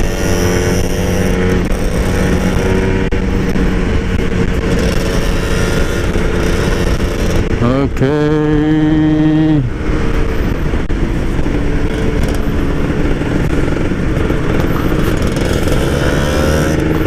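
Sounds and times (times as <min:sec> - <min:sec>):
two-stroke motorcycle engine: 0:00.0 - 0:17.0
wind and road noise: 0:00.0 - 0:17.0.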